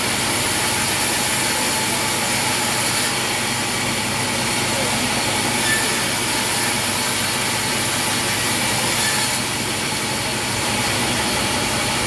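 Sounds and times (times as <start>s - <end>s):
band saw running: 0.0s - 12.0s.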